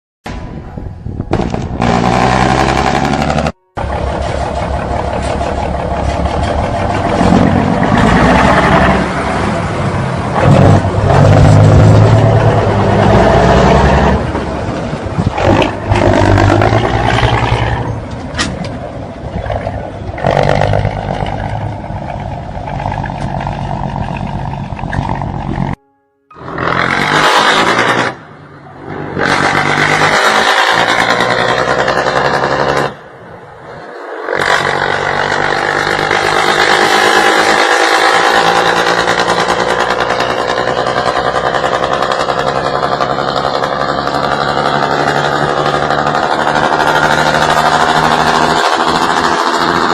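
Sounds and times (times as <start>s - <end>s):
diesel truck engine running: 0.6s - 49.9s.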